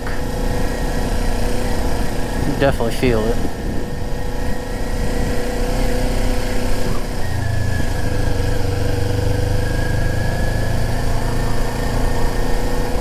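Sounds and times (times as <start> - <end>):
motorbike engine running: 0.0 - 13.0.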